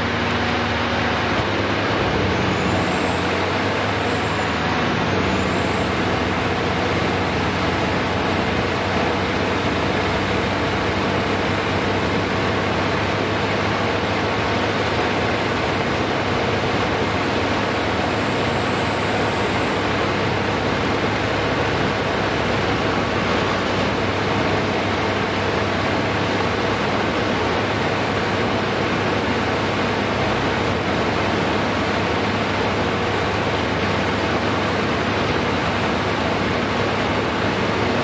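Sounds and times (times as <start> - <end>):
excavator working: 0.0 - 38.0.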